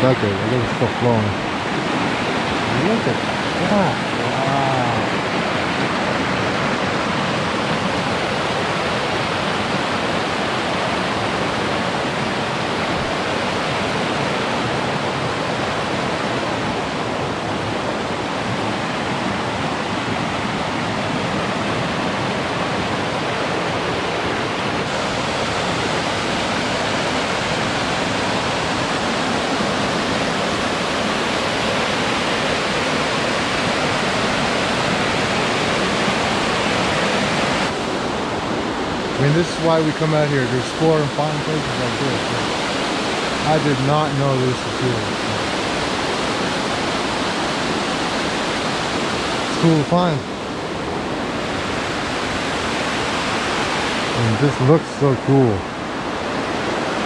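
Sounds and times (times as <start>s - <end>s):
water rushing over dam: 0.0s - 57.0s.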